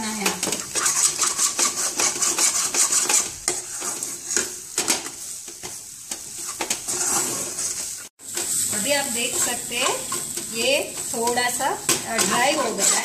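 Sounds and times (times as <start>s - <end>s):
metal spoon scraping a pan: 0.0s - 13.0s
oil sizzling: 0.0s - 13.0s.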